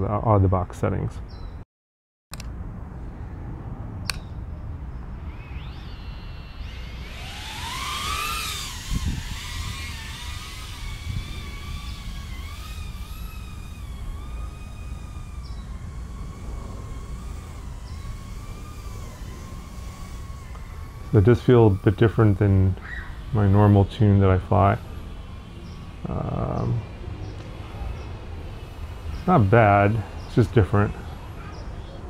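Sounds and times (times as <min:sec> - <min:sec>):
drone motors whining: 0:04.0 - 0:32.0.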